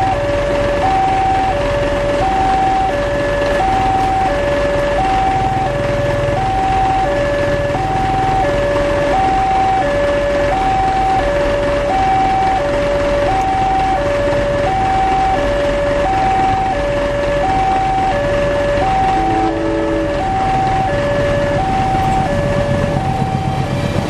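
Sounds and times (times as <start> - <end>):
level-crossing two-tone alarm: 0.0 - 24.0.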